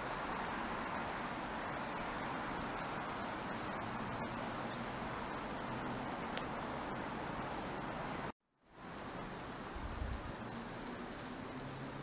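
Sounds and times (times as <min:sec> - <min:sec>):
city background hiss: 0:00.0 - 0:12.0.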